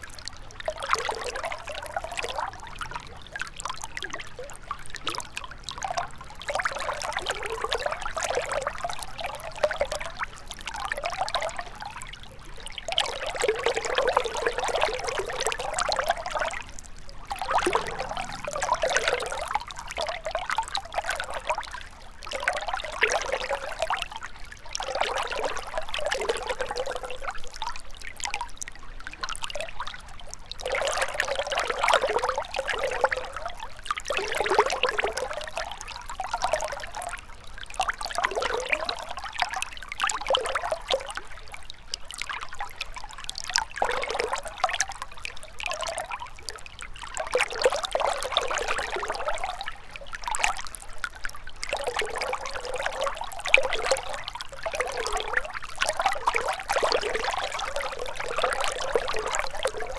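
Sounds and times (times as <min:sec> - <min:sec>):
river trickling over stones: 0:00.0 - 0:59.9.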